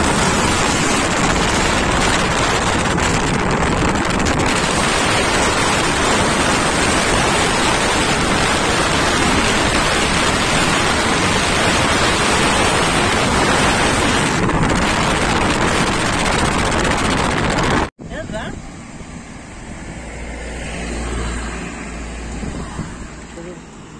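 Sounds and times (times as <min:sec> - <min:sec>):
wind buffeting microphone: 0:00.0 - 0:23.4.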